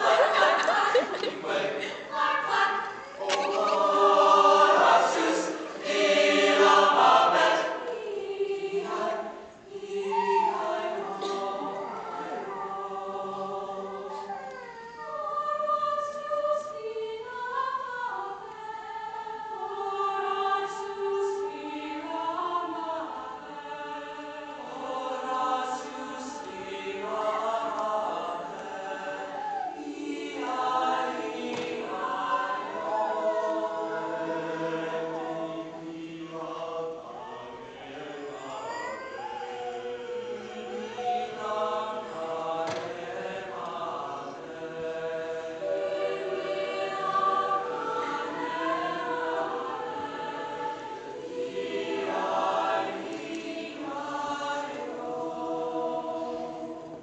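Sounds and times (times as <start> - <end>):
choir singing in chorus: 0.0 - 57.0.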